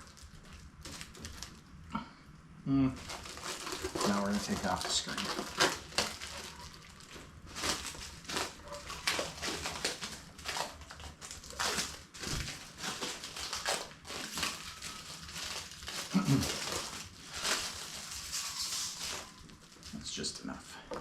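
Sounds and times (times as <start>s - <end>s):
plastic film peeling and crinkling: 0.0s - 1.8s, 3.0s - 20.5s.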